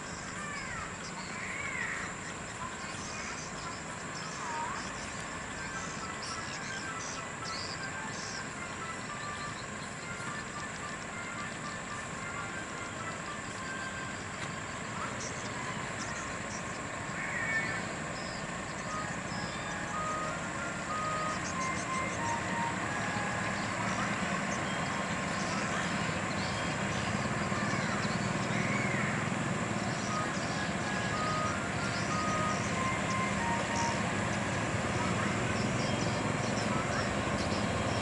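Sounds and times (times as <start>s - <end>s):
truck diesel engine running: 0.0s - 38.0s.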